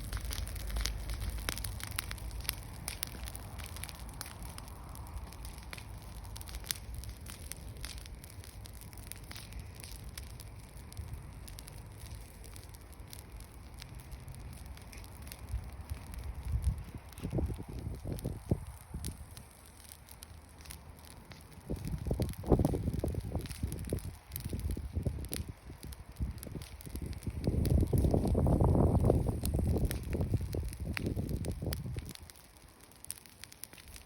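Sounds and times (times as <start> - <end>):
embers crackling and popping: 0.0 - 34.0.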